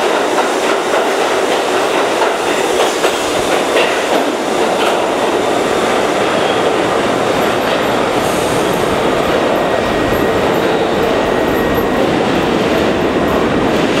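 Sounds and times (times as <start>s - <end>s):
subway train wheels rumbling: 0.0s - 14.0s.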